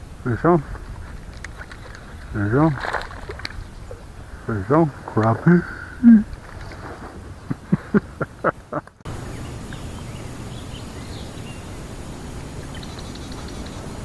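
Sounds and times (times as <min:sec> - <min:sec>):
small birds chirping: 0:00.0 - 0:06.8, 0:09.1 - 0:14.0
outdoor ambience: 0:00.0 - 0:14.0.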